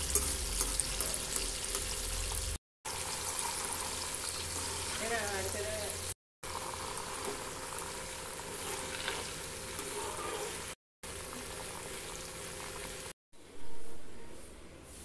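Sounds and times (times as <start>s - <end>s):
deep-frying sizzle in hot oil: 0.0s - 13.2s.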